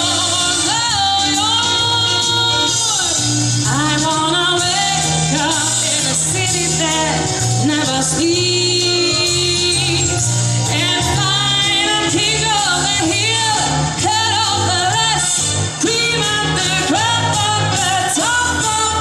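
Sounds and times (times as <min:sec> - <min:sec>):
amplified backing music with bass: 0:00.0 - 0:19.0
woman singing into a microphone: 0:00.0 - 0:19.0.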